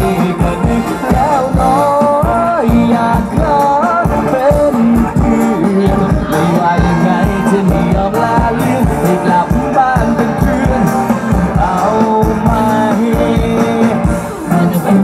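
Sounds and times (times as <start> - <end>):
live band playing pop song: 0.0 - 15.0
man singing through pa: 0.0 - 15.0.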